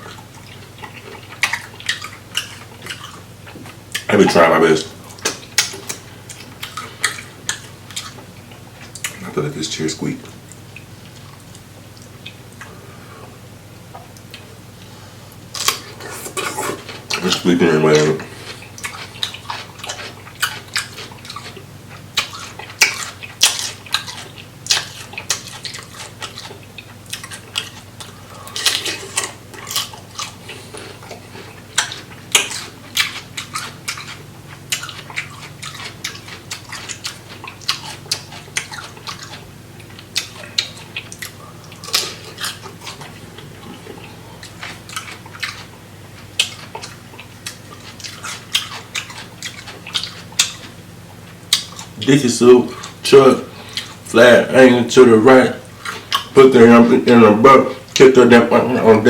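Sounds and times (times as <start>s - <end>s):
wet chewing and smacking: 0.0s - 12.8s, 13.8s - 14.6s, 15.3s - 59.0s.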